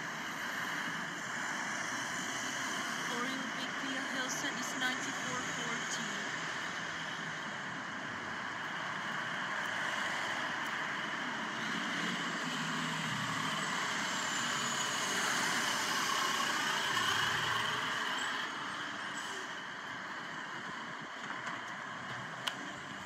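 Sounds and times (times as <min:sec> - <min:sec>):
bus passing by: 0:00.0 - 0:23.0.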